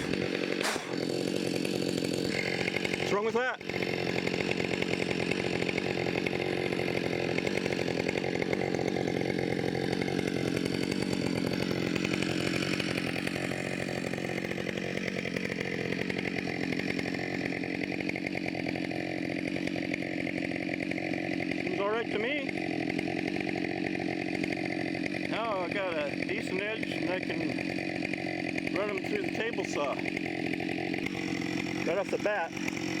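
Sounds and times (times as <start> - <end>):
chainsaw cutting a log: 0.0 - 33.0.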